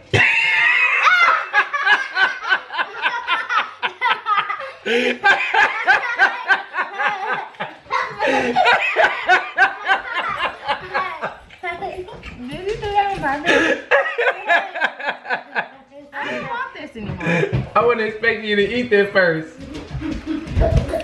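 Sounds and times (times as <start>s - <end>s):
people laughing: 0.1s - 12.4s, 13.4s - 16.6s, 19.7s - 21.0s.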